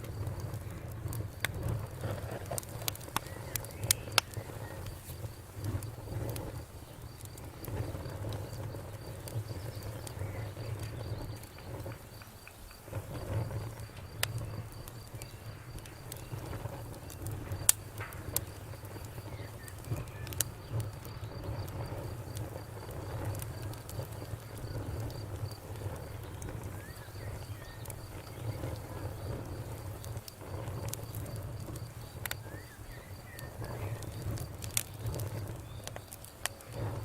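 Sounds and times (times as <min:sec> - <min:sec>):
campfire crackling and popping: 0:00.0 - 0:37.0
crickets chirping: 0:00.0 - 0:37.0
low rumble of flame: 0:00.0 - 0:37.0.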